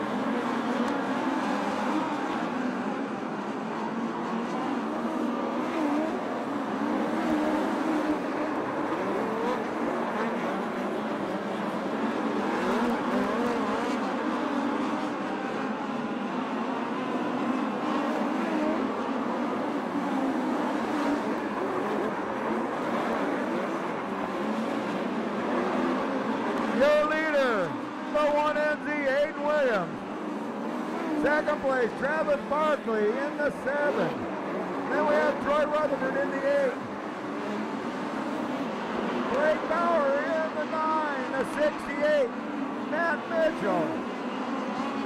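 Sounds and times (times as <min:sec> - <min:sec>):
race car engines revving: 0:00.0 - 0:45.0.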